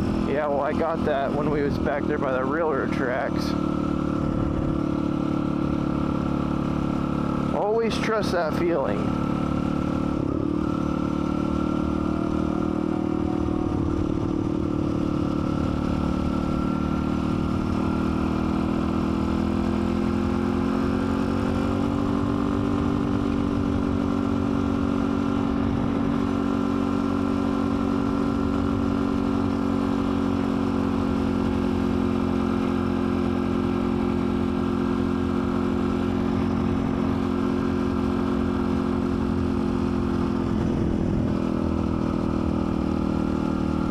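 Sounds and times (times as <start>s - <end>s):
dirt bike engine running: 0.0s - 43.9s.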